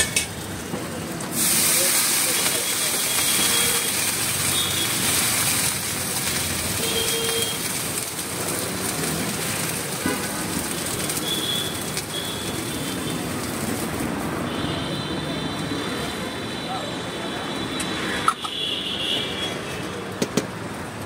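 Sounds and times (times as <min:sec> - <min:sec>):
water sizzling on a hot griddle: 0:00.0 - 0:21.0.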